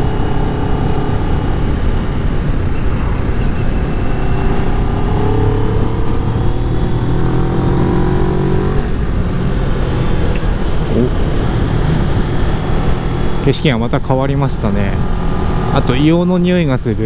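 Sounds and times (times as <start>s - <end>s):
motorcycle engine running: 0.0s - 16.2s
wind rushing over microphone: 0.0s - 17.0s.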